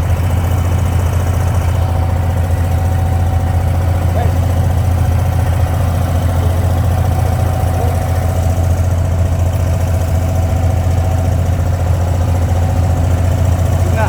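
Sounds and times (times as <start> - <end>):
boat diesel engine droning: 0.0 - 14.0.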